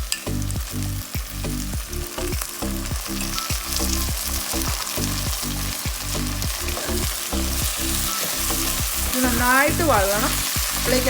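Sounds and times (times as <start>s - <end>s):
masala sizzling in hot oil: 0.0s - 11.0s.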